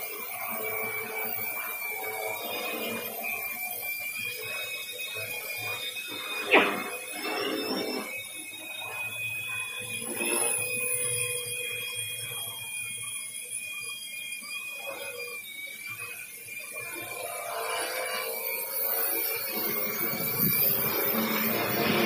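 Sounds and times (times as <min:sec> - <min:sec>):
quadcopter propellers whining: 0:00.0 - 0:22.0.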